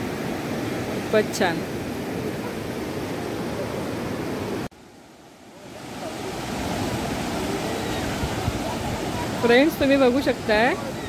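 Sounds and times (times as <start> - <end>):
ocean surf on a beach: 0.0 - 11.0.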